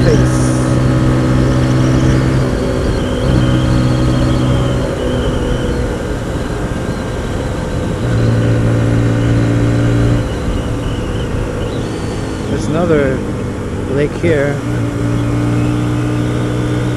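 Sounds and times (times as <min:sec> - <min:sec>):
motorcycle engine cruising: 0:00.0 - 0:16.9
wind rush on microphone: 0:00.0 - 0:16.9.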